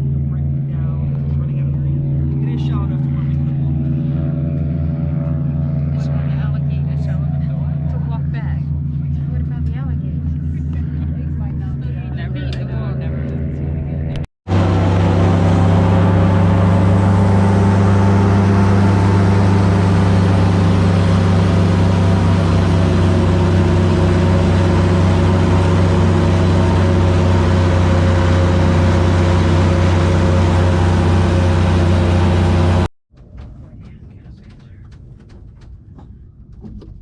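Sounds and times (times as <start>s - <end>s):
airboat engine and propeller: 0.0s - 34.8s.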